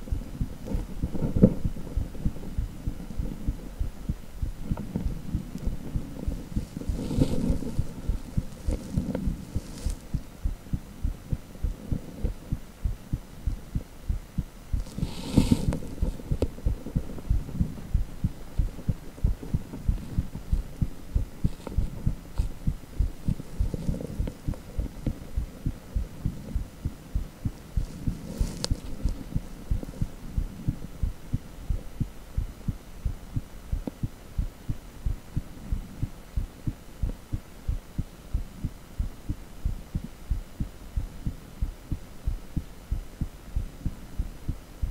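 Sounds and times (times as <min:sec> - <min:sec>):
hum: 0:00.0 - 0:44.9
low pulsing heartbeat: 0:00.0 - 0:44.9.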